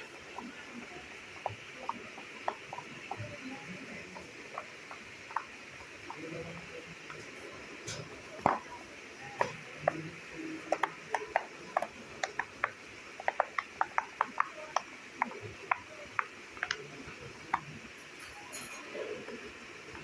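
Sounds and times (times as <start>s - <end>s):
fidget toy bubbles popping: 0.0s - 18.0s.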